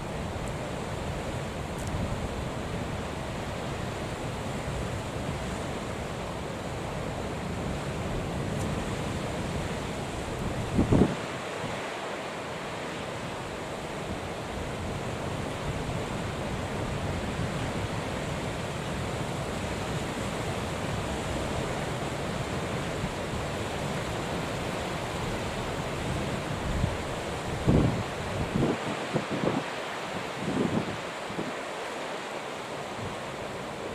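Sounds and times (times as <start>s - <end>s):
wind blowing across microphone: 0.0s - 31.7s
sea waves breaking: 0.0s - 33.9s.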